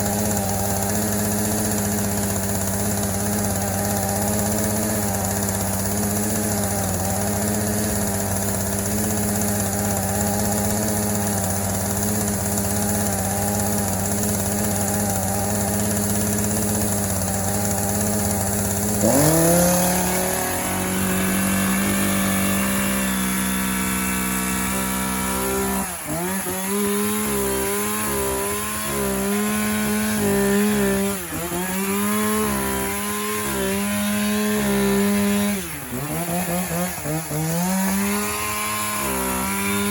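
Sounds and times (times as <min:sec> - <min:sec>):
chainsaw cutting pumpkin: 0:00.0 - 0:39.9
chainsaw engine revving: 0:00.0 - 0:39.9.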